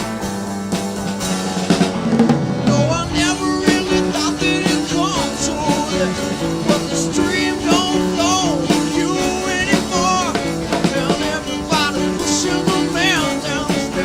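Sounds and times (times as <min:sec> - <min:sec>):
drum hits: 0:00.0 - 0:14.0
rock band playing: 0:00.0 - 0:14.0.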